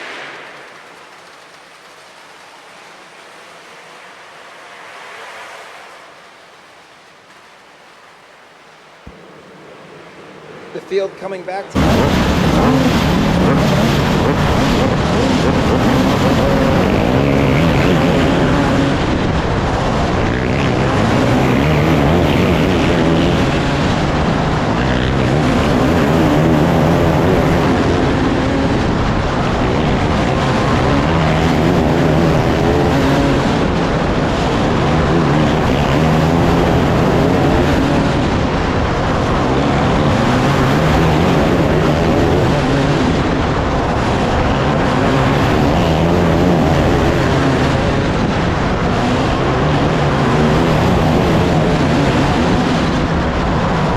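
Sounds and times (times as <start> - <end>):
race car engines passing: 0.0 - 53.9.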